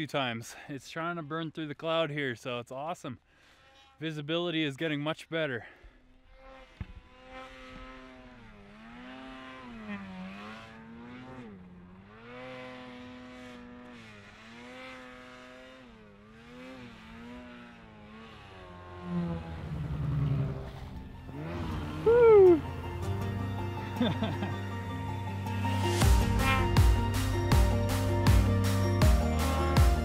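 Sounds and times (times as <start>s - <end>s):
snowmobile engine revving: 3.4s - 4.6s, 5.6s - 30.0s.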